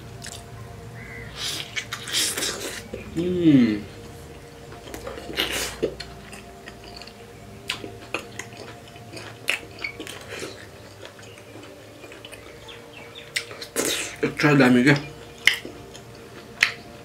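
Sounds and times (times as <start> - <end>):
faint steady hum: 0.0 - 17.0
person chewing food: 0.2 - 14.4, 15.0 - 17.0.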